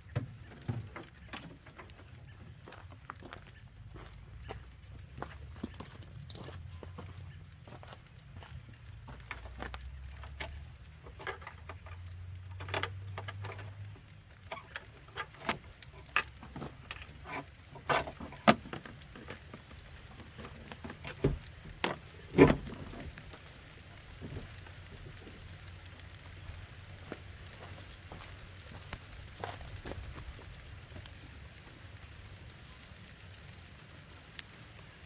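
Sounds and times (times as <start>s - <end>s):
rain drops pattering: 0.0s - 35.0s.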